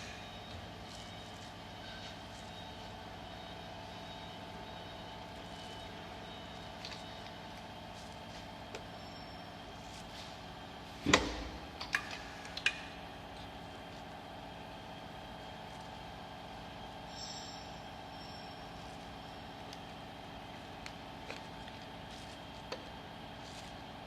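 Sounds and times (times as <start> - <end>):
labeling machine hum: 0.0 - 24.0.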